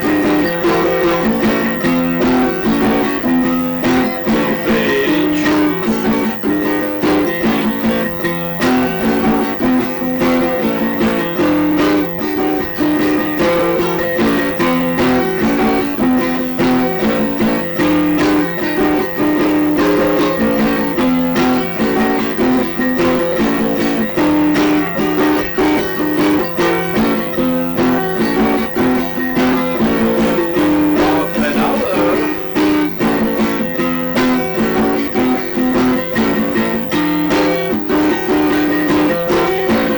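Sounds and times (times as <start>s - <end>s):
plucked guitar instrumental music: 0.0s - 39.9s.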